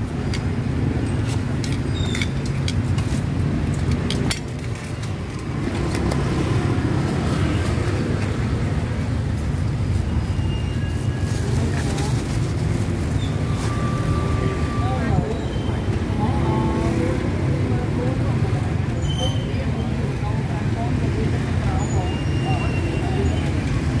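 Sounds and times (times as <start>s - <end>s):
low rumble of road traffic: 0.0s - 24.0s.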